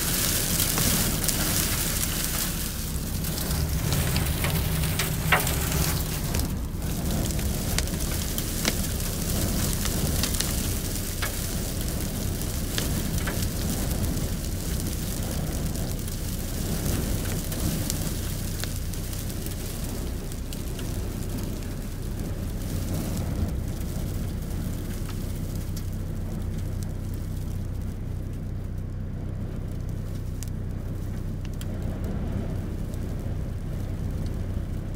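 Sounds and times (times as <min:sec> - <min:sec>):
dust and grit pelting a car: 0:00.0 - 0:34.9
vehicle engine humming: 0:00.0 - 0:34.9.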